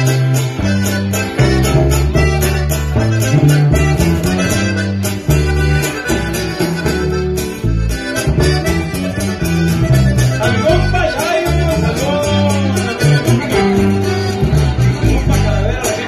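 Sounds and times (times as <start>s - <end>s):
accordion melody: 0.0s - 16.0s
deep bass line: 0.0s - 16.0s
strummed strings: 0.0s - 16.0s.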